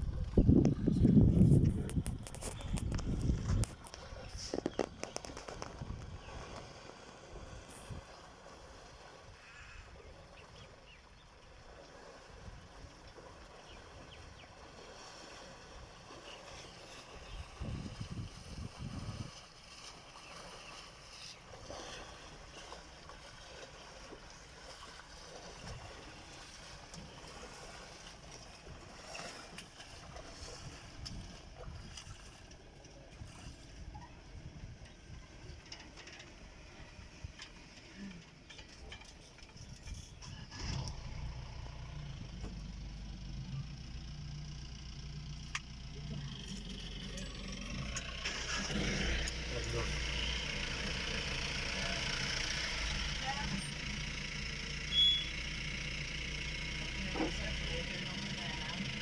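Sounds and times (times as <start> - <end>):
vehicle engine idling: 0.0 - 29.8, 32.4 - 59.0.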